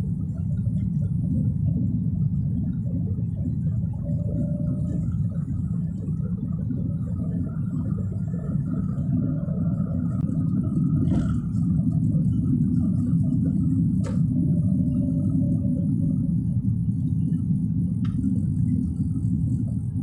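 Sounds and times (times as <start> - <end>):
car engine rumble: 0.0 - 20.0
tyres on road: 3.6 - 19.9.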